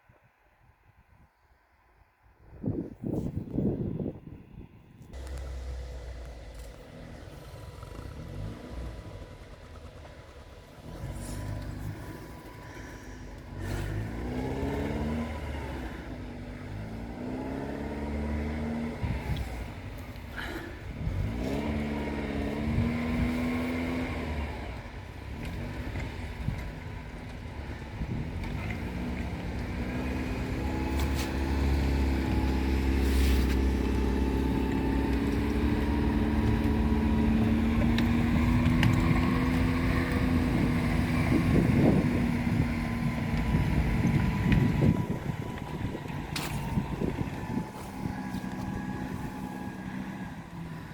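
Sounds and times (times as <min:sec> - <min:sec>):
atv engine revving: 0:05.2 - 0:50.9.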